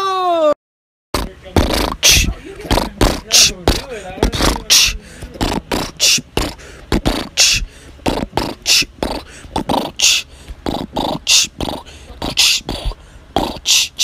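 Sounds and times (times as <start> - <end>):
person beatboxing: 1.2 - 14.0.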